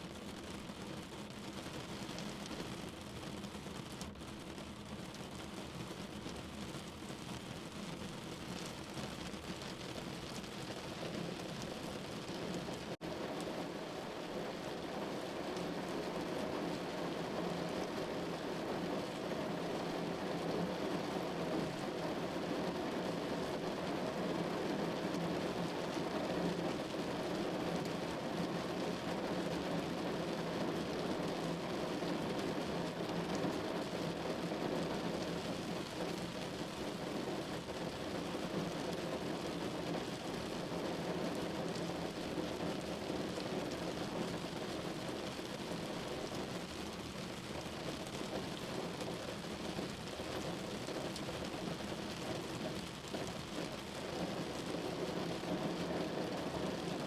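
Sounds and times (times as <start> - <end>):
rain on a window pane: 0.0 - 57.0.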